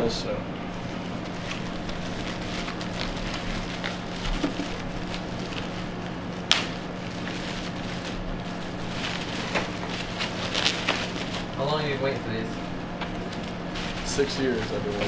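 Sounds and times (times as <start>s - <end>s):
plastic bag crinkling: 0.7s - 15.0s.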